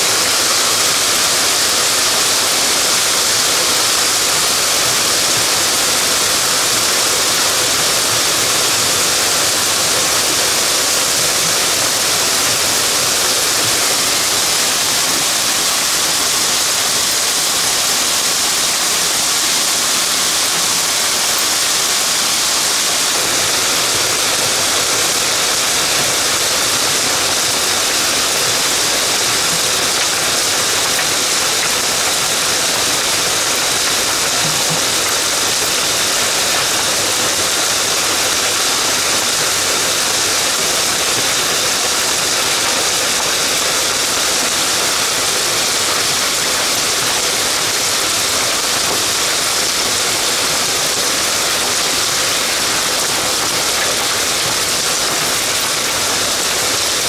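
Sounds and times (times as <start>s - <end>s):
heavy rain and hail: 0.0s - 57.0s.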